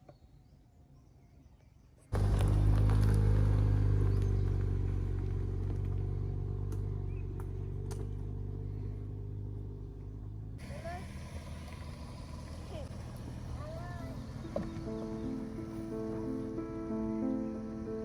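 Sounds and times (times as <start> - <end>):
car engine humming: 2.1 - 18.0.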